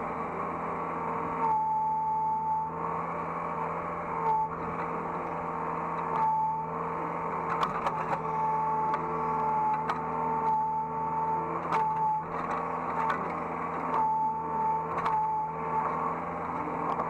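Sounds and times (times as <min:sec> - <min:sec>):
excavator engine drone: 0:00.0 - 0:17.0
hydraulic whine: 0:00.0 - 0:17.0.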